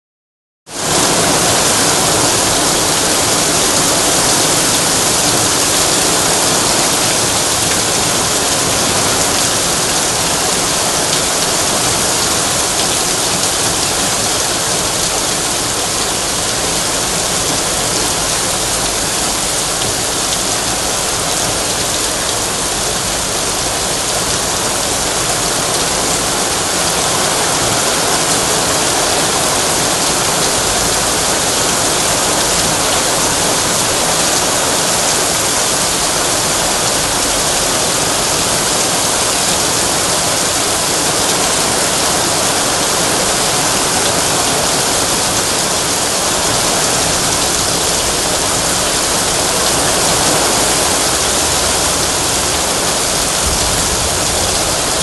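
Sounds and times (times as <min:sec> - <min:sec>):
heavy rain on asphalt: 0:00.7 - 0:55.0.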